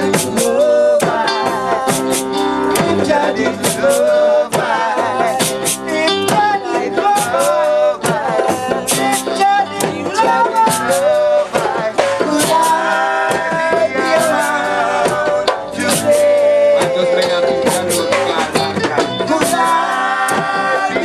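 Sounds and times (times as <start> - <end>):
man singing: 0.0 - 21.0.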